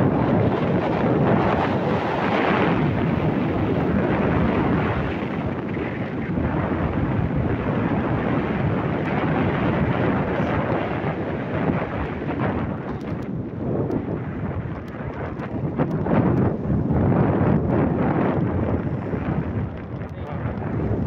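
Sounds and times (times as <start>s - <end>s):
low rumble on rough concrete road: 0.0s - 21.0s
wind buffeting microphone: 0.0s - 21.0s.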